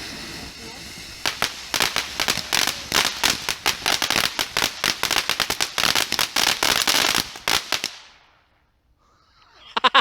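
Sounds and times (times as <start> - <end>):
firecrackers cracking: 0.0 - 8.5.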